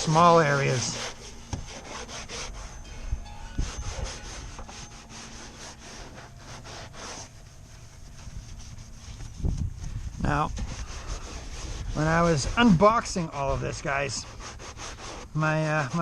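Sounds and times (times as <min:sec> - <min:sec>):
hand scrubbing wet hull: 0:00.0 - 0:16.0.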